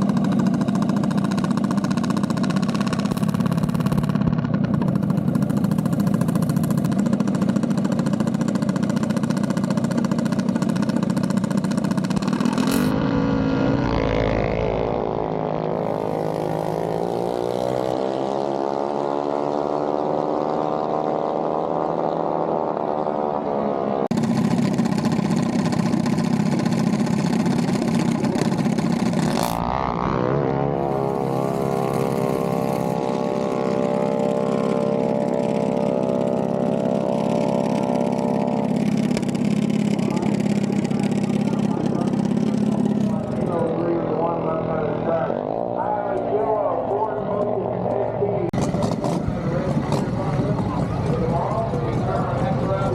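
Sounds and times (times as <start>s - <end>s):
mini bike engines running: 0.0s - 14.3s, 15.4s - 20.9s, 24.1s - 46.2s, 48.6s - 52.9s.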